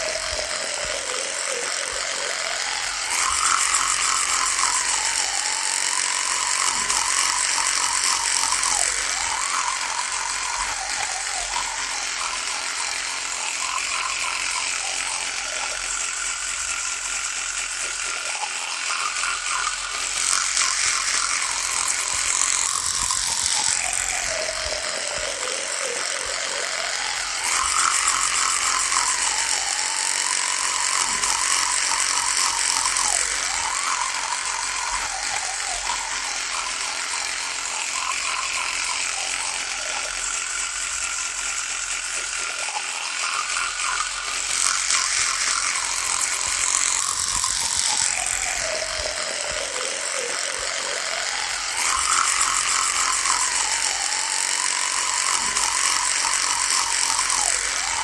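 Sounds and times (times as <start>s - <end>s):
electric toothbrush buzzing: 0.0s - 58.0s.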